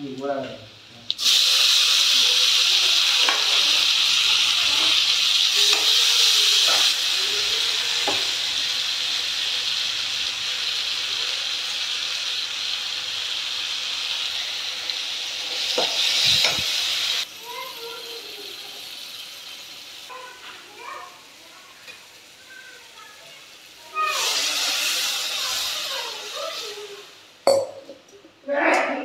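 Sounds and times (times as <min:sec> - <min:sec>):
vegetables sizzling in hot oil: 0:00.1 - 0:27.4.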